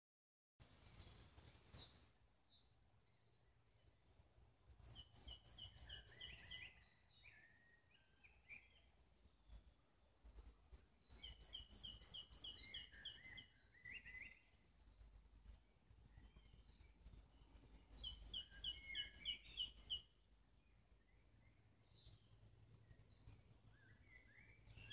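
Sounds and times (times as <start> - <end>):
songbird singing: 0.6 - 24.9
faint bird chirps: 4.8 - 24.9.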